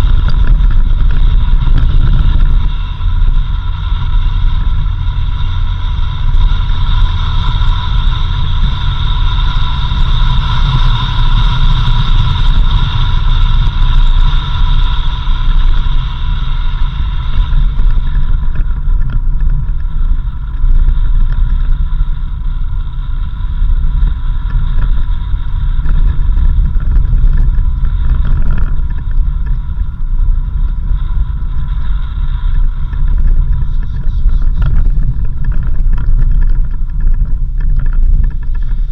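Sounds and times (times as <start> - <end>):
vehicle rumbling on dirt road: 0.0 - 38.9.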